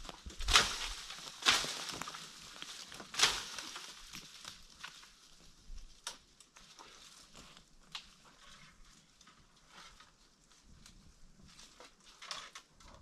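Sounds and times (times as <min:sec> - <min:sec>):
rustles and clicks on stony ground: 0:00.0 - 0:13.0.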